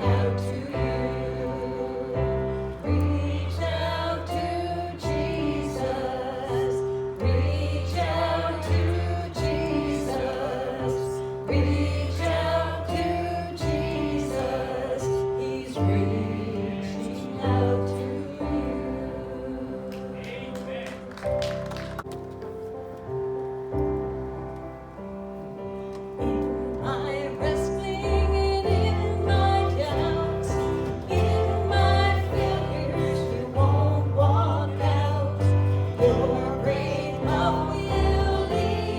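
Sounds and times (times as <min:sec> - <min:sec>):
people singing a hymn: 0:00.0 - 0:21.1, 0:26.2 - 0:38.9.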